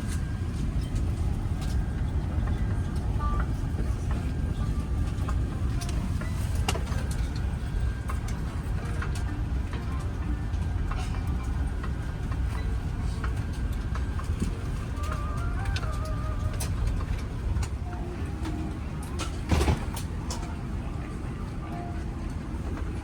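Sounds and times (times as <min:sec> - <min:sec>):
aircraft cabin low rumble: 0:00.0 - 0:23.0.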